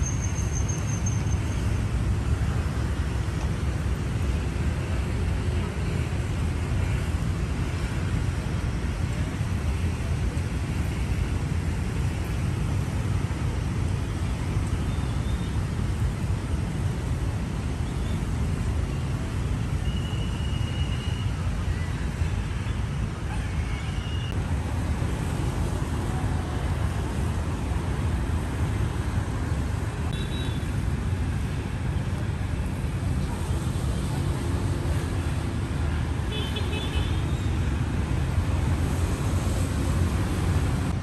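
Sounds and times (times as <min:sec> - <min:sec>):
road traffic rumble: 0:00.0 - 0:41.0.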